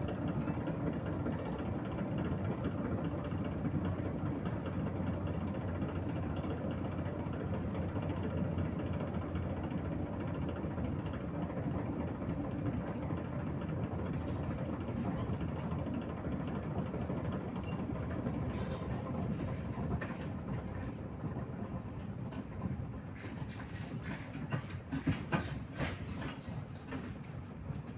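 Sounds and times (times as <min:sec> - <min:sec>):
bus engine and road rumble: 0:00.0 - 0:27.9.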